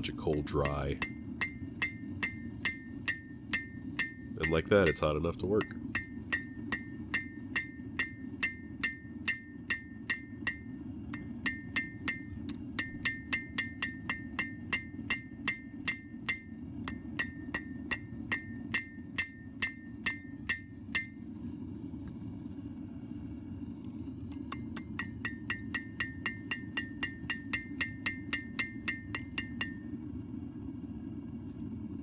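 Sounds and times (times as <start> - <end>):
hammer striking steel on anvil: 0.0 - 21.2, 24.5 - 29.9
forge burner rushing: 0.0 - 32.0.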